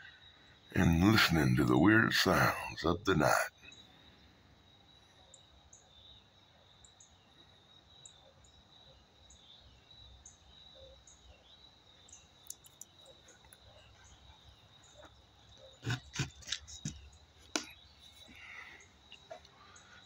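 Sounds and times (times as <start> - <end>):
insect chirps: 0.0 - 20.0.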